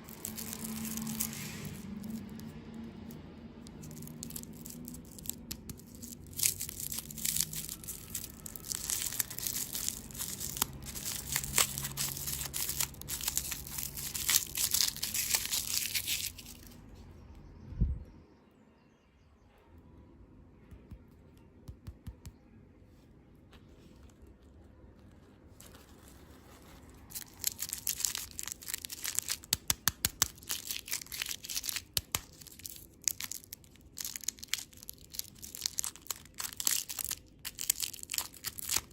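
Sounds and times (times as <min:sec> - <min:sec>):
candy wrappers crinkling: 0:00.0 - 0:16.8, 0:23.9 - 0:38.9.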